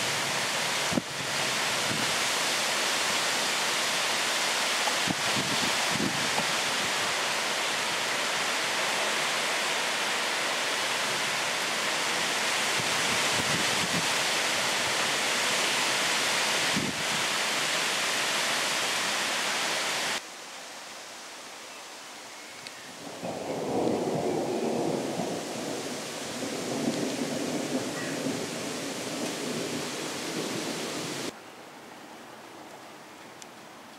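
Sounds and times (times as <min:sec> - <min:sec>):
storm wind: 0:00.0 - 0:19.0, 0:22.9 - 0:31.4
heavy rain roaring: 0:00.0 - 0:20.2, 0:22.8 - 0:31.4.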